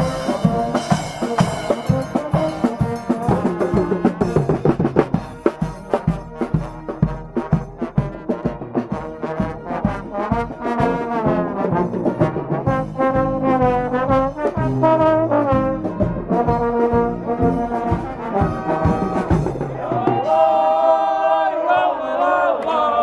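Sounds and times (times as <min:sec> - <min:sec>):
street brass band playing: 0:00.0 - 0:20.7.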